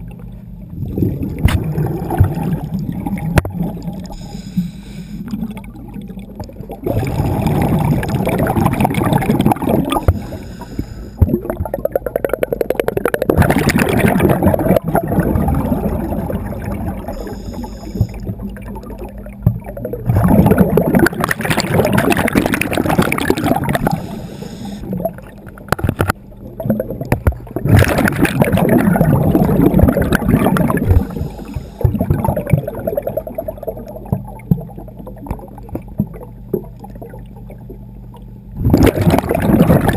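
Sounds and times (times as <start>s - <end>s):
underwater bubbles rushing: 0.0s - 39.9s.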